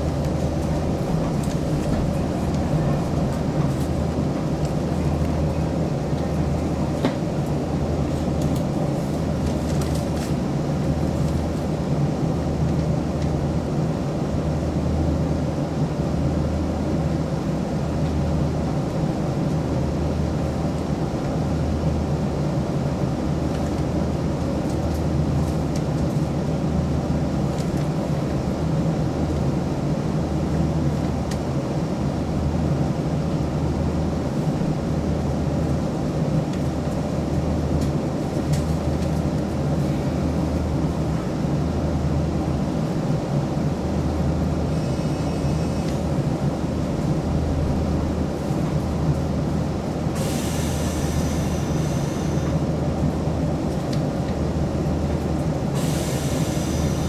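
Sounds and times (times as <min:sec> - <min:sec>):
electric train humming: 0:00.0 - 0:57.0.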